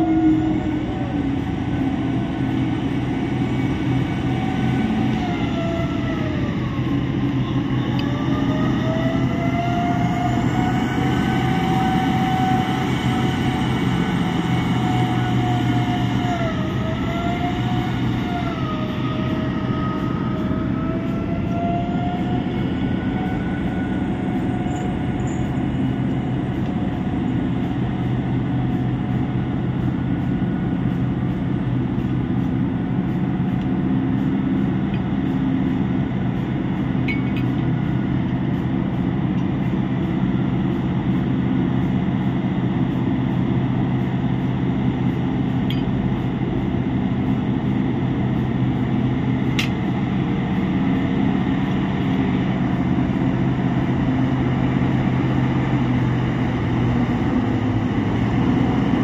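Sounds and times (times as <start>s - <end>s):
high drivetrain whine: 0.0s - 59.0s
truck engine rumble: 0.0s - 59.0s.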